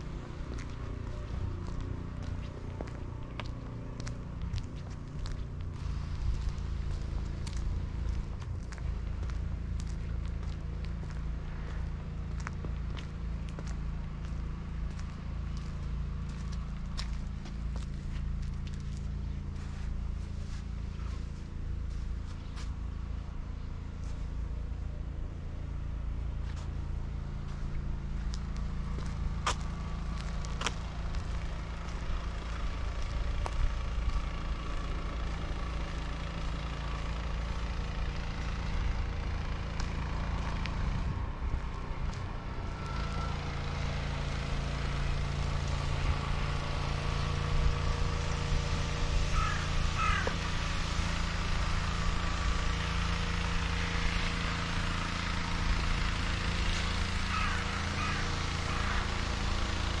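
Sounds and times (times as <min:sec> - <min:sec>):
road traffic: 0:00.0 - 1:00.0.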